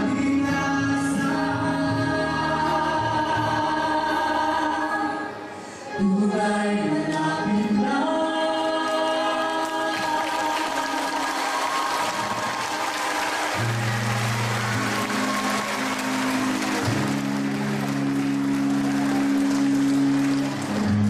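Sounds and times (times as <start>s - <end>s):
musical accompaniment: 0.0s - 21.0s.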